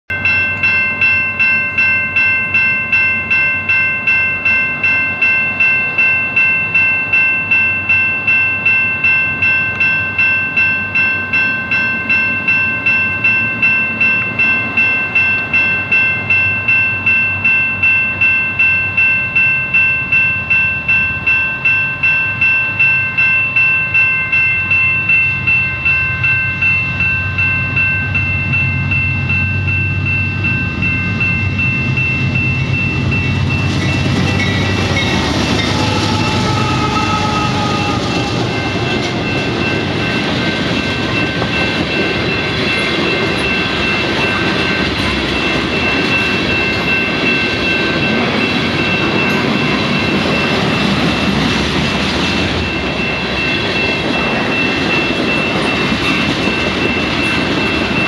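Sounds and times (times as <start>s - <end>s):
low rumble of diesel train: 0.1s - 58.0s
railway crossing bell ringing: 0.1s - 58.0s.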